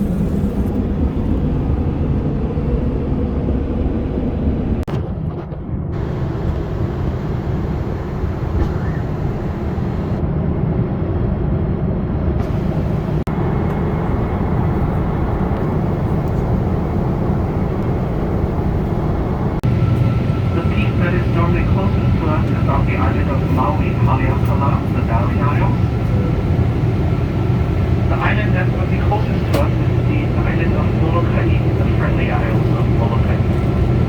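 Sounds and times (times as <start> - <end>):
airplane cabin engine noise: 0.0 - 34.0.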